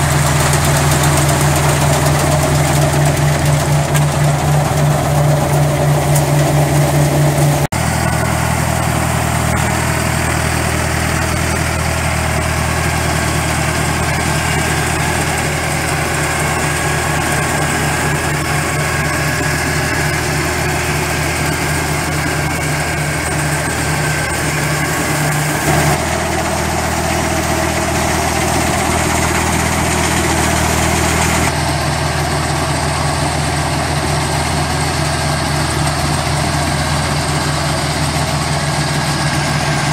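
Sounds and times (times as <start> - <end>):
harvester machinery working: 0.0 - 39.9
tractor engine running under load: 0.0 - 39.9.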